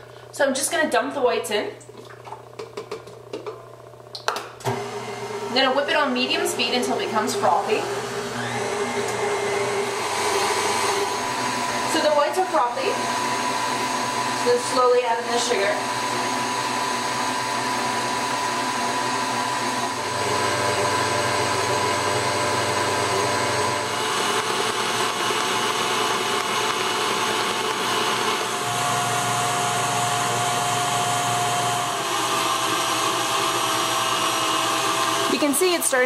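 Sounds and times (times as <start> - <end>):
electric stand mixer whisking: 2.4 - 36.0.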